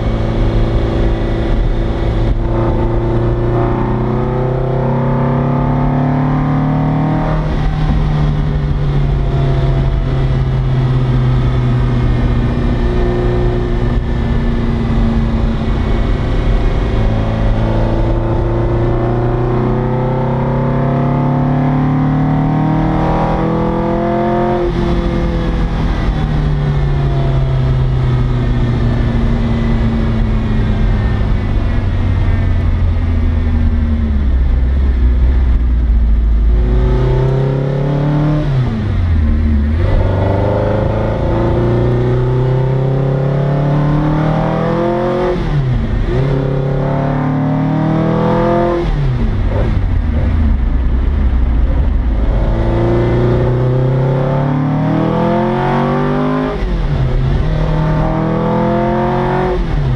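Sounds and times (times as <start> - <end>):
racing car engine at high revs: 0.0 - 59.9.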